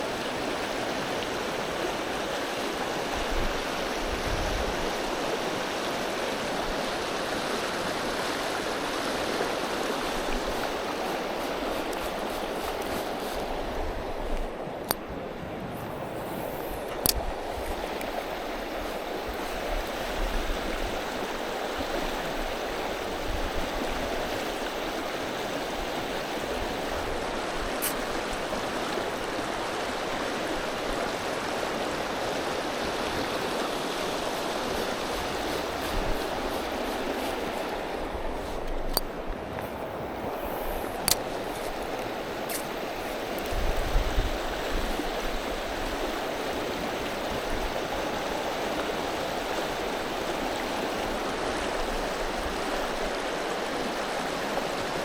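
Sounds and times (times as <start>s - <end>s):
river current rushing: 0.0s - 55.0s.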